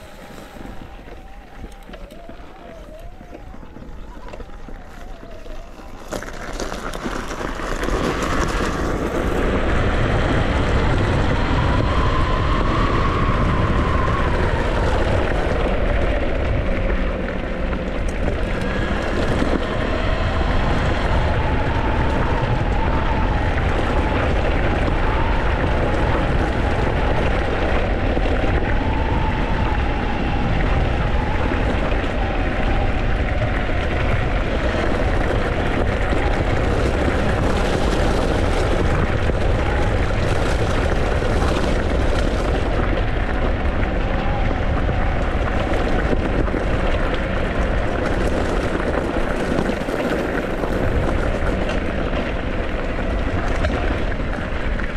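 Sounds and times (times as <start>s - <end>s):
tyres on gravel: 0.0s - 28.9s, 29.8s - 54.9s
electric dirt bike motor whine: 0.0s - 54.9s
wind rumble: 0.0s - 54.9s.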